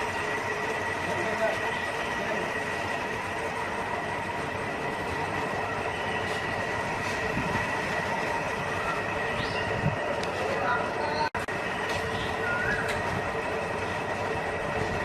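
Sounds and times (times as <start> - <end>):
machine running with constant hum: 0.0 - 15.0.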